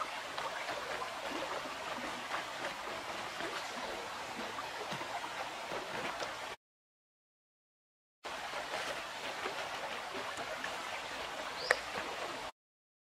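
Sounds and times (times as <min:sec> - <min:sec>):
stream flowing: 0:00.0 - 0:06.6, 0:08.2 - 0:12.5.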